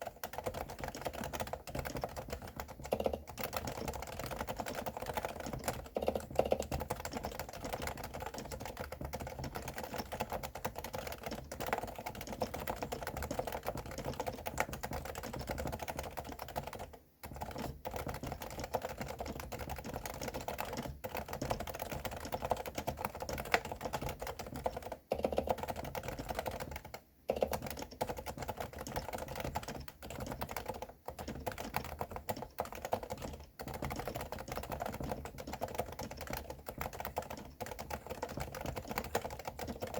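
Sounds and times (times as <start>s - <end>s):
soft muffled keyboard typing: 0.0s - 39.9s.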